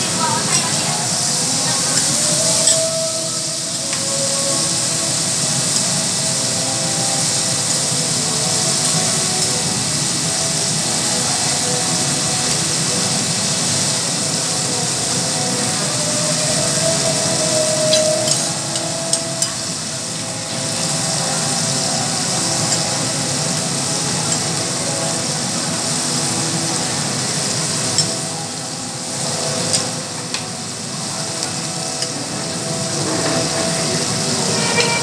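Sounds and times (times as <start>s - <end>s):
food sizzling on a griddle: 0.0s - 35.0s.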